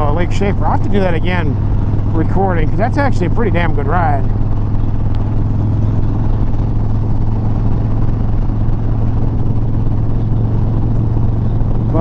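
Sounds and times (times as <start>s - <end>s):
motorcycle engine droning: 0.0s - 12.0s
wind rushing over microphone: 0.0s - 12.0s.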